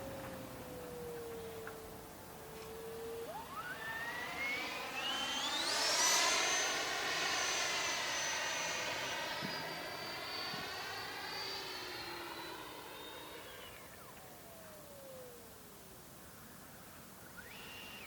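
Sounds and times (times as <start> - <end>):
model jet fan whining: 0.0 - 18.0.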